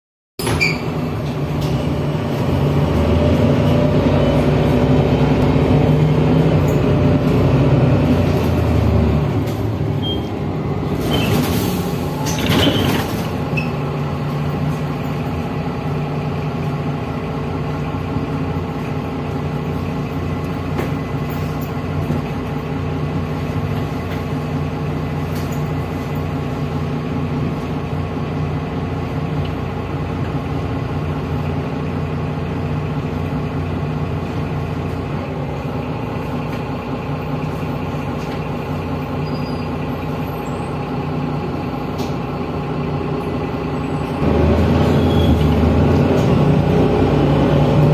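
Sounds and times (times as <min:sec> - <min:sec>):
bus diesel engine: 0:00.4 - 0:47.9.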